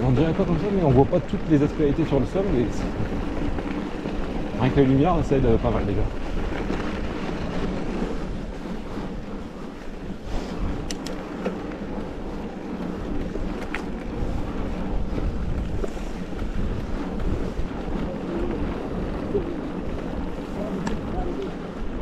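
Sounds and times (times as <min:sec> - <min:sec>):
bike clicks and rattles: 0:00.0 - 0:22.0
bike tyre noise: 0:00.0 - 0:22.0
wind rumble on microphone: 0:00.0 - 0:22.0.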